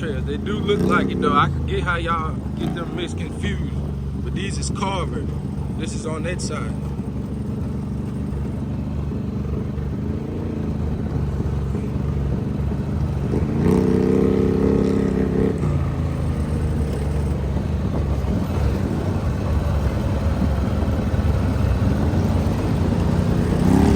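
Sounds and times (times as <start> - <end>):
atv engine running: 0.0 - 23.9.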